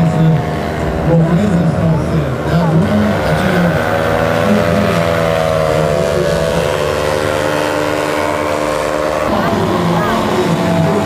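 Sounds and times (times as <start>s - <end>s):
paramotor engine running overhead: 0.0s - 11.0s.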